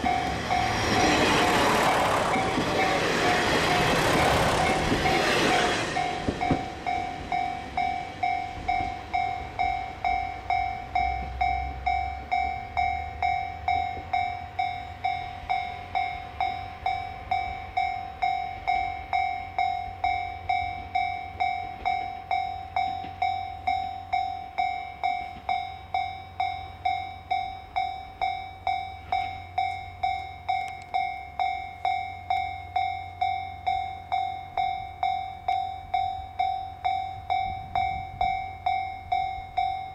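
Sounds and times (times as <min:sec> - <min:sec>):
level crossing warning bell: 0:00.0 - 0:39.9.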